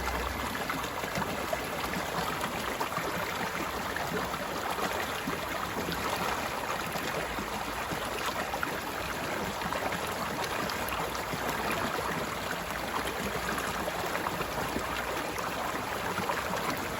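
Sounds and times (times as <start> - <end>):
stream flowing over rocks: 0.0 - 16.9.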